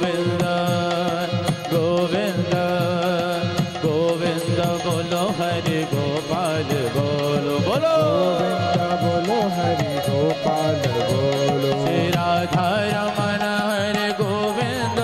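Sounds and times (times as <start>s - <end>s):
fast drum rhythm: 0.0s - 15.0s.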